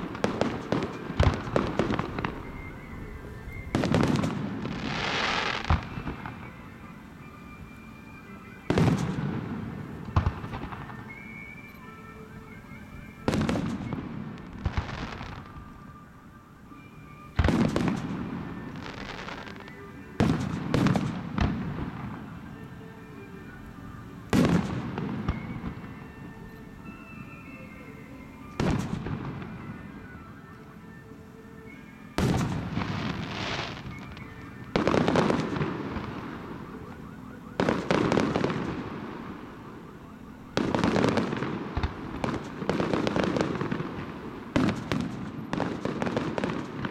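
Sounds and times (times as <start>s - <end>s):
firework crackle: 0.0s - 16.0s, 16.8s - 27.5s, 31.7s - 46.9s.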